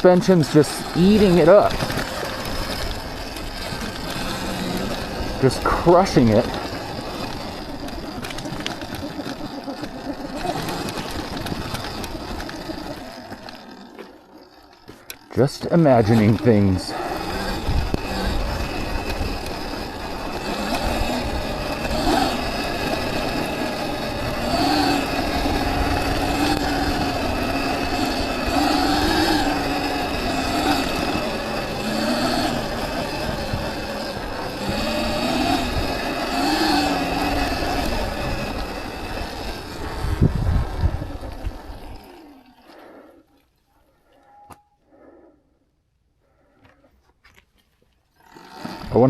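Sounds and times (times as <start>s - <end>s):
low rumble from rough ground: 0.0s - 42.8s
electric motor whining: 0.0s - 43.0s, 48.2s - 49.0s.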